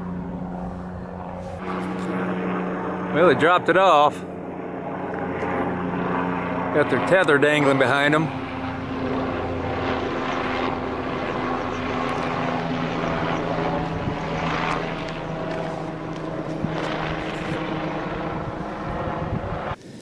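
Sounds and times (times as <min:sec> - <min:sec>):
helicopter rotor drone: 0:00.0 - 0:20.0.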